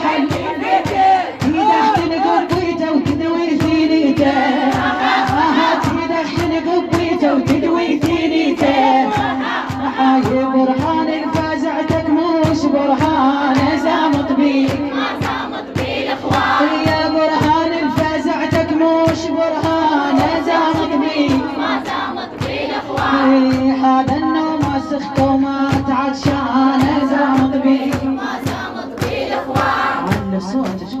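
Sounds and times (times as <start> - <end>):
steady percussive beat: 0.0 - 31.0
wordless choir-like voices: 0.0 - 31.0.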